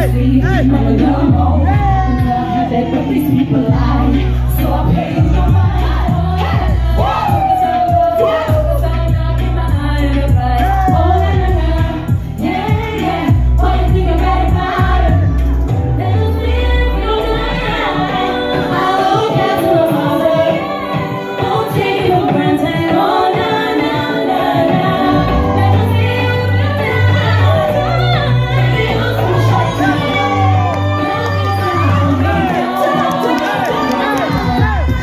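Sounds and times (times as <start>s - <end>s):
music with heavy bass: 0.0s - 35.0s
women singing together: 0.0s - 35.0s.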